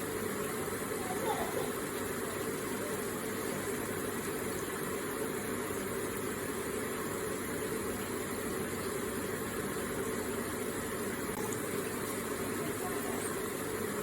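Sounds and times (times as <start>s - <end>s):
water feature splashing: 0.0s - 14.0s.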